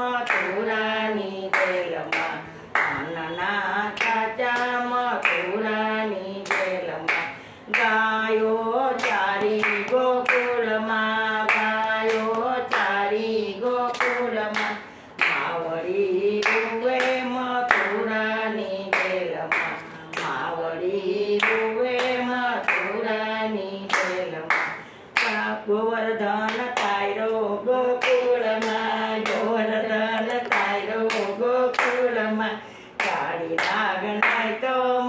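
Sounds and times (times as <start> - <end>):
rhythmic hand claps: 0.0 - 25.6, 26.3 - 34.8
women singing devotional song: 0.0 - 35.0.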